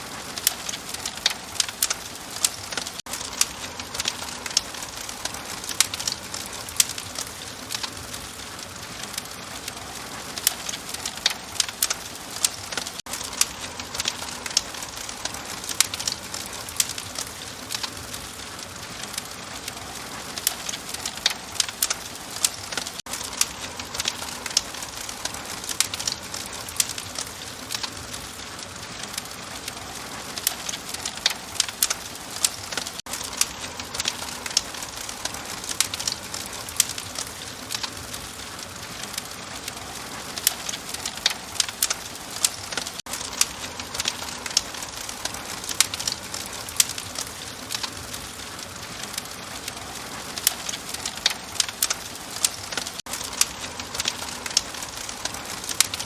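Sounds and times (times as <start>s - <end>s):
open fire crackling: 0.0s - 56.0s.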